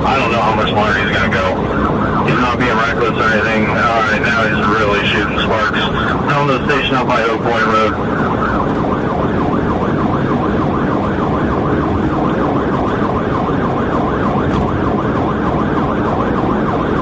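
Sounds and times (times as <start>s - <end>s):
car road and engine noise: 0.0s - 17.0s
police siren yelping: 0.0s - 17.0s.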